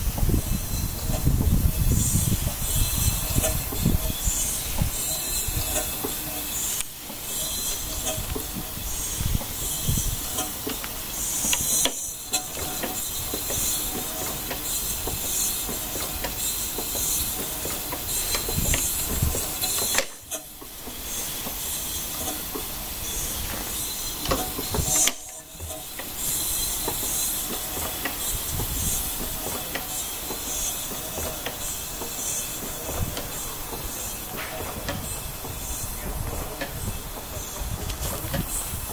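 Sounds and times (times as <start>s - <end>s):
hiss of exhausting air: 0.0s - 38.9s.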